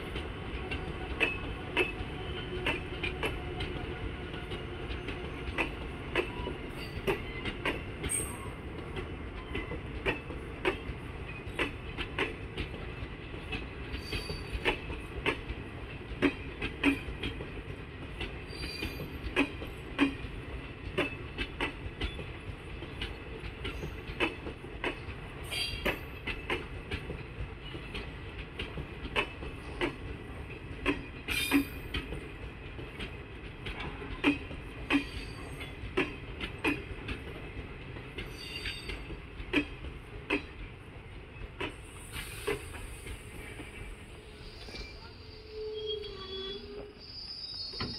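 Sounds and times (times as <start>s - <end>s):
train wheels clacking over rail joints: 0.0s - 43.8s.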